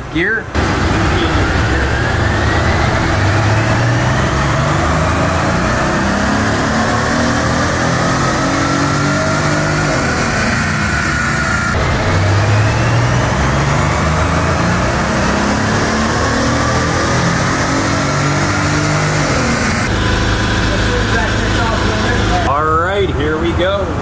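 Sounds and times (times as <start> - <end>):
steady rushing noise: 0.0 - 24.0
car engine revving under load: 0.5 - 24.0.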